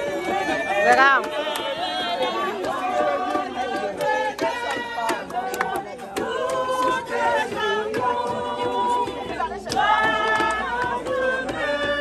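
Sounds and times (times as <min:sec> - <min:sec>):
group singing a hymn: 0:00.0 - 0:12.0.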